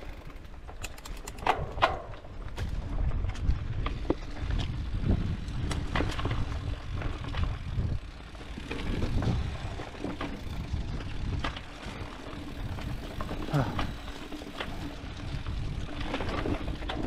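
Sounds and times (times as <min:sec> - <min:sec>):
bike rattling over bumps: 0:00.0 - 0:17.0
bike tyres rumbling on dirt: 0:00.0 - 0:17.0.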